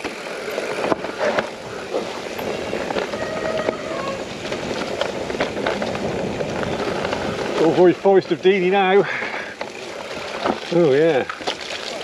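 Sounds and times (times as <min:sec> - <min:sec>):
bike knocks and rattles: 0:00.0 - 0:12.0
bike tyre and wind noise: 0:00.0 - 0:12.0.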